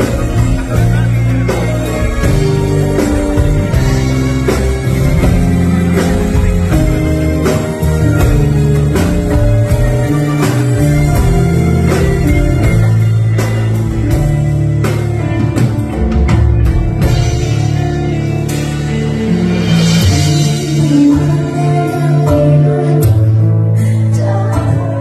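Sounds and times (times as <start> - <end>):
steady percussion beat: 0.0 - 22.7
band playing held chords: 0.0 - 25.0.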